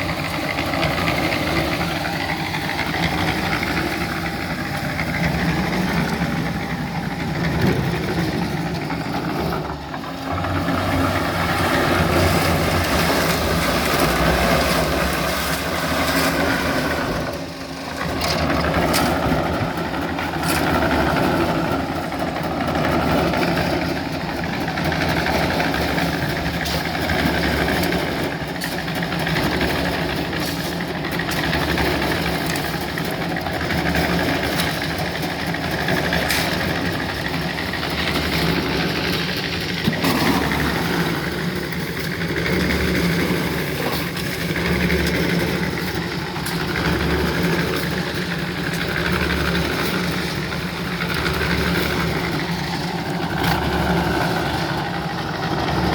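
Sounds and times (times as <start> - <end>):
engine running loudly: 0.0 - 55.9.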